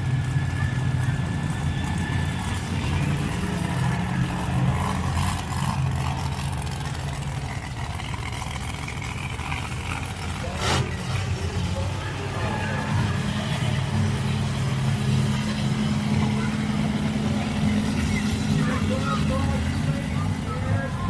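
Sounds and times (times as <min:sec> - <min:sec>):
truck engines droning: 0:00.0 - 0:21.0.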